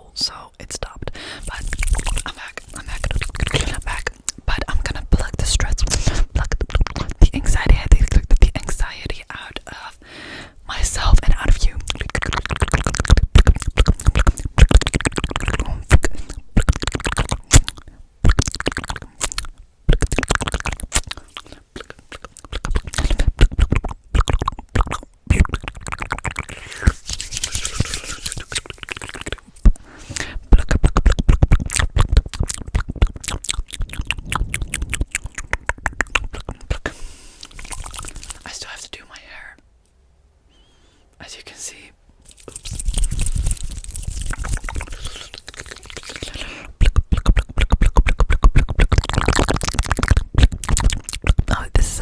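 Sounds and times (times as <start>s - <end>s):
mouth clicks pops and smacks: 1.0s - 9.7s, 10.8s - 38.8s, 42.2s - 52.0s.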